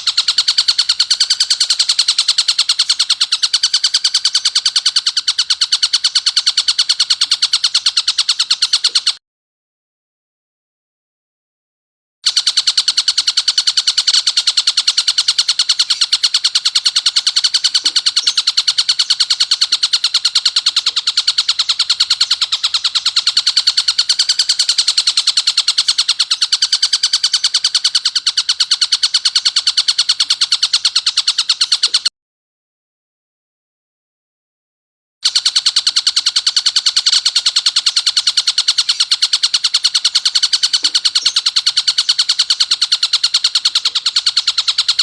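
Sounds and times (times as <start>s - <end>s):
kingfisher rasping rattle call: 0.0s - 9.2s, 12.3s - 32.1s, 35.2s - 45.0s.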